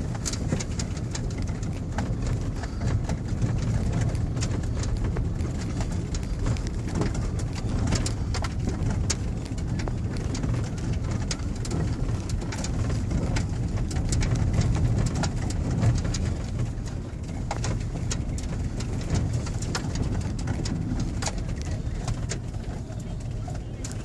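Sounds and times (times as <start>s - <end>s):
sharp clicks and rattles: 0.0s - 24.0s
truck engine and road rumble: 0.0s - 24.0s.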